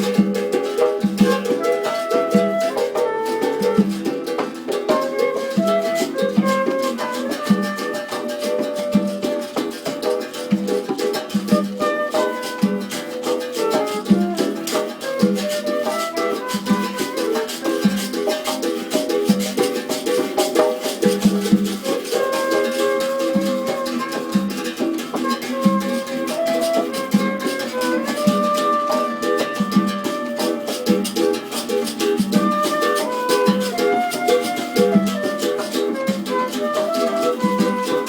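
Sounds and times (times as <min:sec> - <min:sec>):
shaker rattling: 0:00.0 - 0:38.0.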